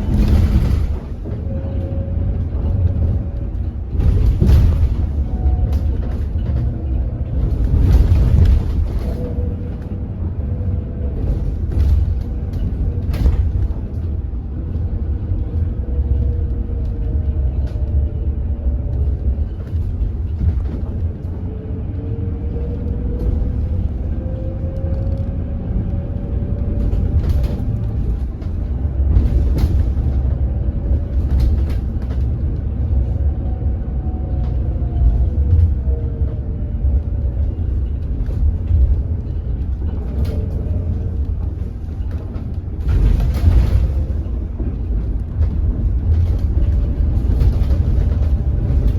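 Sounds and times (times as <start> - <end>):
bus low rumble: 0.0 - 48.9
rattles and clicks: 0.0 - 48.9.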